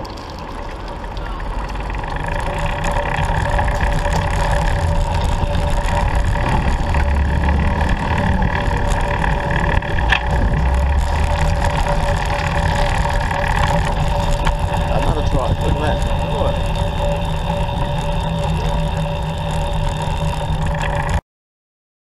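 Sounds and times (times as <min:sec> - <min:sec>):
road and wind rumble: 0:00.0 - 0:21.2
thin steady whine: 0:00.0 - 0:21.2.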